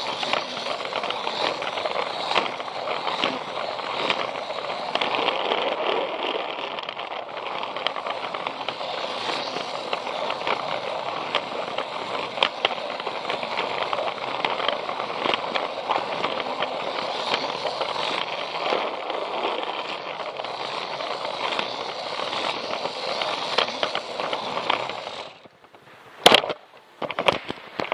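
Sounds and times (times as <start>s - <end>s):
toy train motor rattling: 0.0s - 25.7s
wheels clicking over track: 0.0s - 27.9s.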